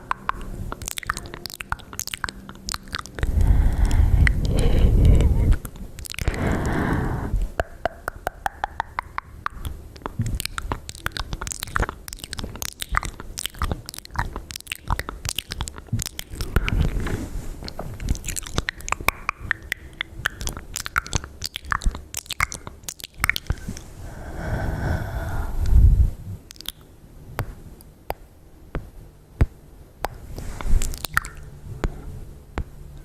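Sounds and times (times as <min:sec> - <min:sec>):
wet lip and tongue clicks: 0:00.0 - 0:23.9, 0:26.5 - 0:28.9, 0:30.0 - 0:31.6.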